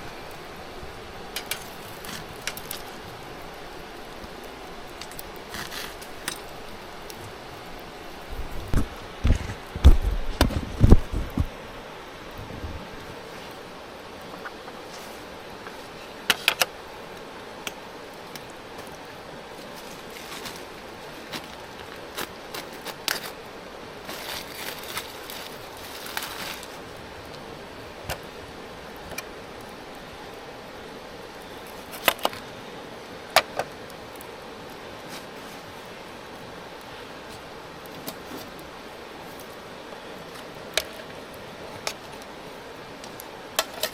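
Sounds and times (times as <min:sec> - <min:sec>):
steady low hiss: 0:00.0 - 0:43.9.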